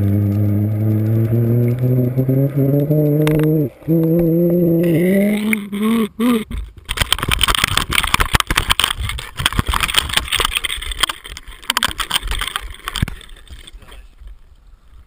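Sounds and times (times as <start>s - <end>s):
muffled splashing: 0.0s - 14.5s.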